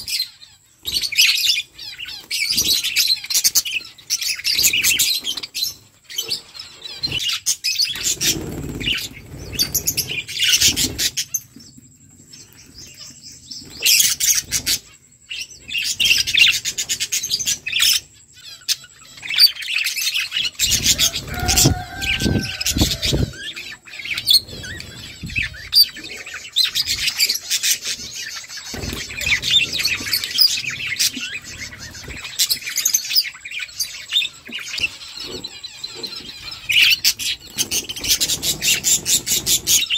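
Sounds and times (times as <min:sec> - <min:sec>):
budgerigars chirping: 0:00.0 - 0:11.5, 0:12.3 - 0:39.9.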